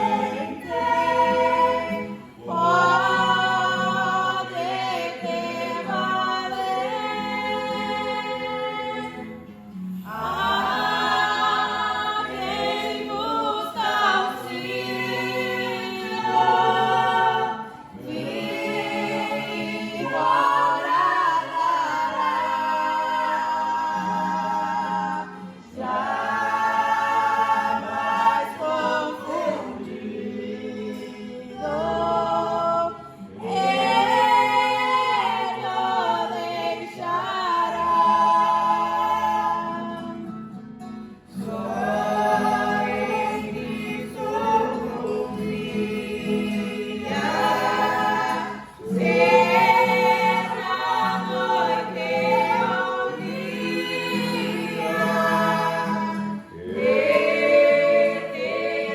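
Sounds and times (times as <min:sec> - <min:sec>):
acoustic guitar: 0:00.0 - 0:58.9
group singing a hymn: 0:00.0 - 0:58.9.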